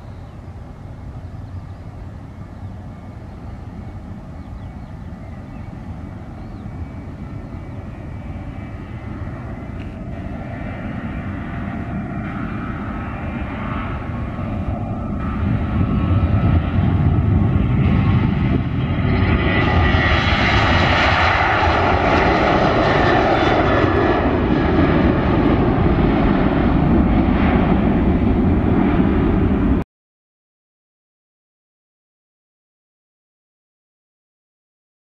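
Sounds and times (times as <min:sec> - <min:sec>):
jet engines roaring at takeoff: 0:00.0 - 0:29.8.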